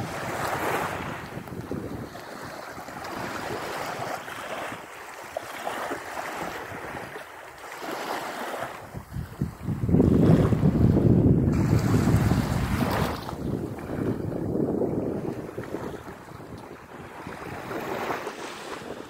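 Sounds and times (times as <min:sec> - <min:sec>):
wind buffeting microphone: 0:00.0 - 0:07.2, 0:07.8 - 0:19.0
small waves washing on shore: 0:00.0 - 0:19.0.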